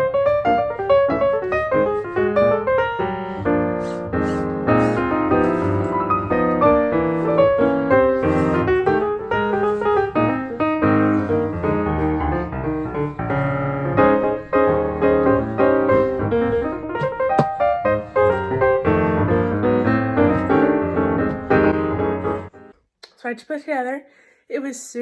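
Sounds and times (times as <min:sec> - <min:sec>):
piano music: 0:00.0 - 0:22.7.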